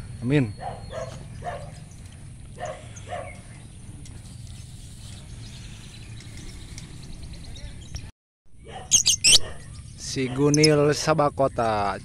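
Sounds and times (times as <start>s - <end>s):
lovebirds chirping faintly: 0.5s - 10.8s.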